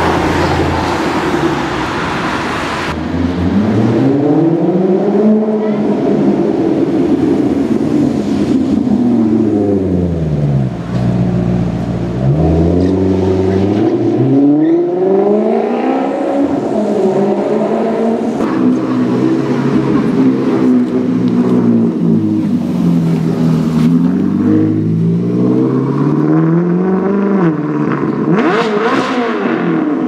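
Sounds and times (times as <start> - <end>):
sports car engine revving: 2.9 - 30.0.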